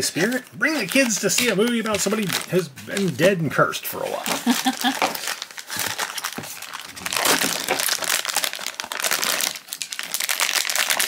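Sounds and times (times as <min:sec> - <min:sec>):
foil pouch crinkling: 0:00.0 - 0:03.4, 0:04.1 - 0:11.0.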